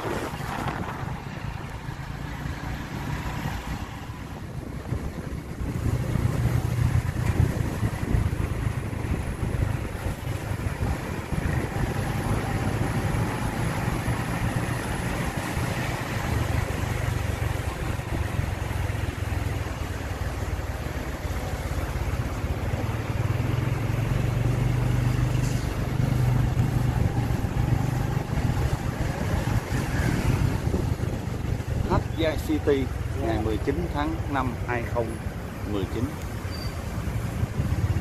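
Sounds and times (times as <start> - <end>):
road noise: 0.0 - 38.0
vehicle engine drone: 0.0 - 38.0.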